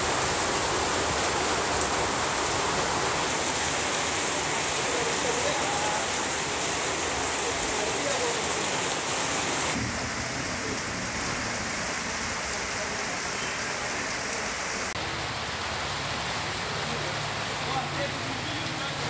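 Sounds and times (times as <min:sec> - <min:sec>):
heavy rain on flooded pavement: 0:00.0 - 0:19.0.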